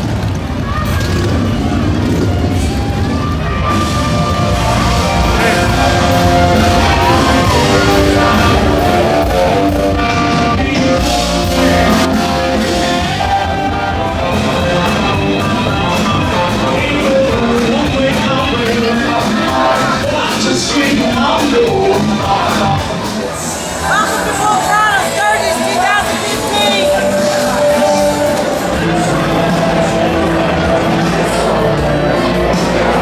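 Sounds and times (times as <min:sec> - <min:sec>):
live rock music: 0:00.0 - 0:33.0.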